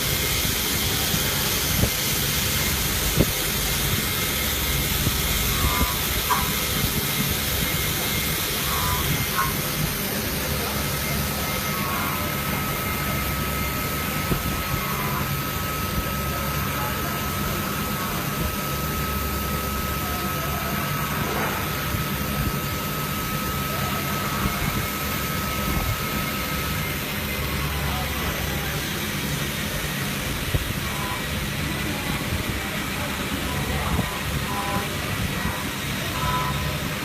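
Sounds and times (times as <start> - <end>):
high spindle whine: 0.0 - 37.0
machine hum: 0.0 - 37.0.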